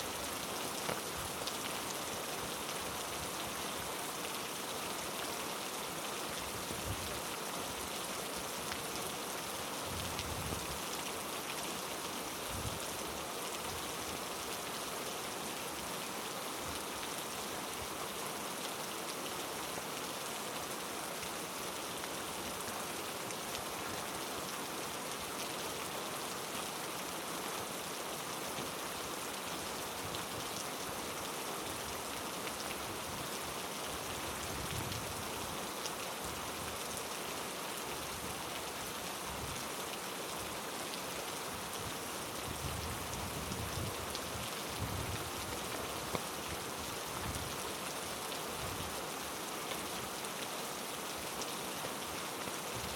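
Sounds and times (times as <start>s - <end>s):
heavy rain on foliage: 0.0s - 52.9s.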